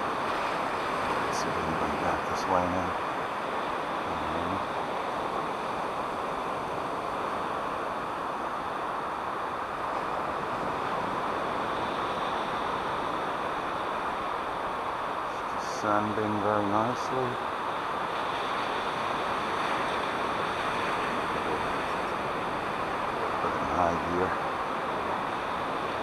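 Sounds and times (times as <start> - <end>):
ocean surf: 0.0 - 26.0.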